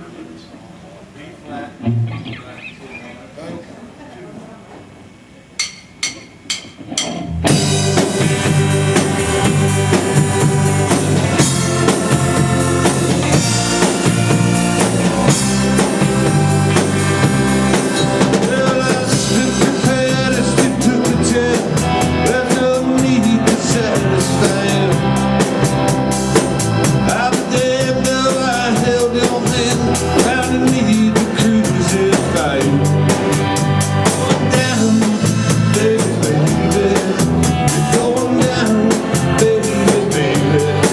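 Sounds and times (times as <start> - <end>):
live band playing: 1.8 - 3.1, 5.6 - 40.9
drum kit beat: 5.6 - 40.9.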